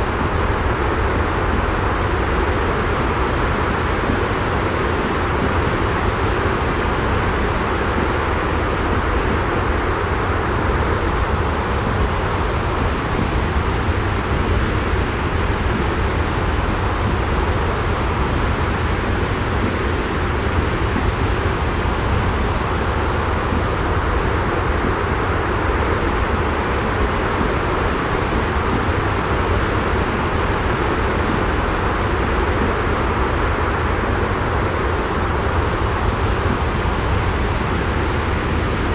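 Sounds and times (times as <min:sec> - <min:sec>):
jet-style white noise rumble: 0:00.0 - 0:38.9.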